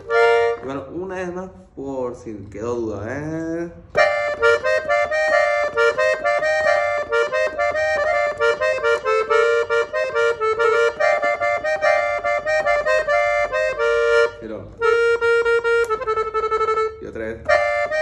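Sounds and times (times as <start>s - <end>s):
button accordion quick melody: 0.0s - 1.0s, 3.9s - 18.0s.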